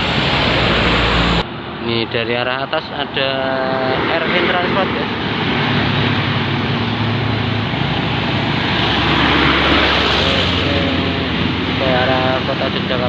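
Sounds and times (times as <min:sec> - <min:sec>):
bus passing: 0:00.0 - 0:13.0.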